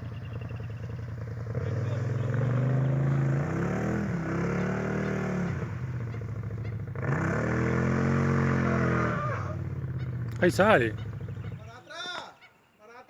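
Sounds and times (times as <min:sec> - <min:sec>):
off-road vehicle engine revving: 0:00.0 - 0:11.8.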